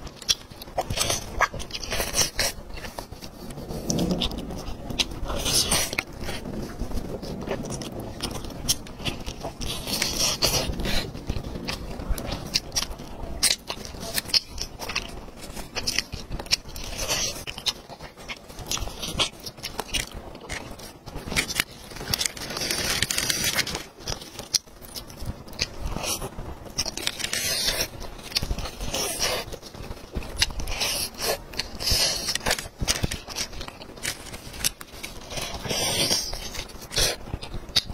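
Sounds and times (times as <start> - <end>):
crackly scraping of gloved hands: 0.0 - 37.9
wet chewing and biting: 0.0 - 37.9.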